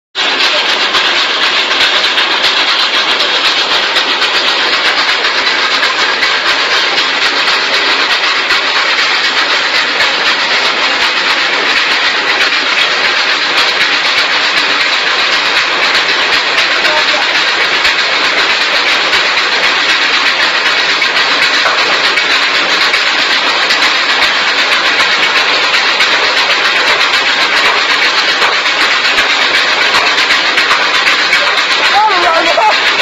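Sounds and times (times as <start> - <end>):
compost turner running: 0.2 - 33.0.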